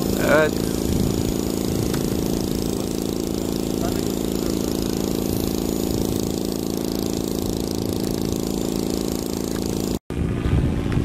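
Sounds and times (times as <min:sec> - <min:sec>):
engine idling: 0:00.0 - 0:10.0
wind noise on microphone: 0:00.0 - 0:11.0.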